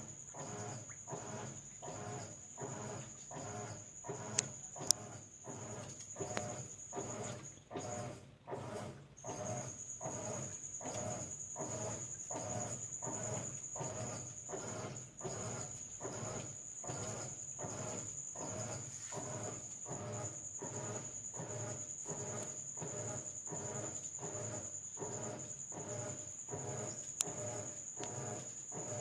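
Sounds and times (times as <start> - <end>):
washing machine agitating: 0.0 - 29.0.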